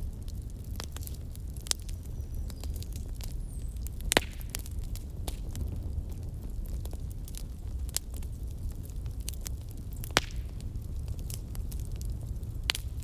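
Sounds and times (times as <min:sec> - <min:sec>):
rumble of flames: 0:00.0 - 0:13.0
wood fire crackling and popping: 0:00.0 - 0:13.0.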